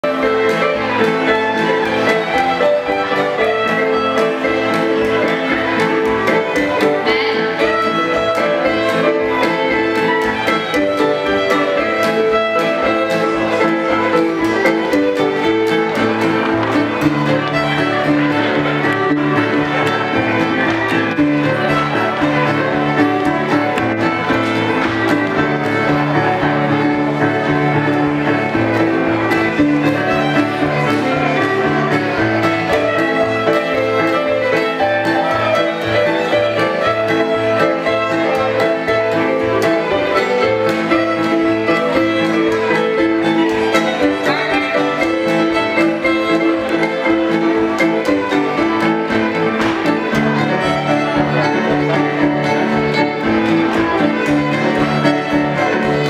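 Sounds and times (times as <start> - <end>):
digital piano accompaniment: 0.0 - 56.0
fiddle playing dance tune: 0.0 - 56.0.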